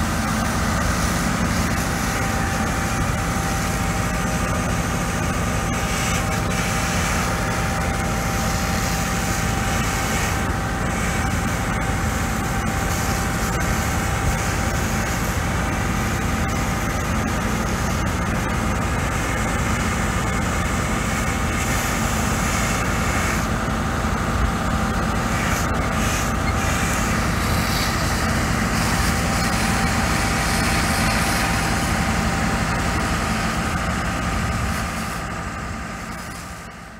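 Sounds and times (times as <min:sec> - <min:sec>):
fire engine pump running: 0:00.0 - 0:36.9
foam spraying from hose nozzle: 0:00.0 - 0:36.9.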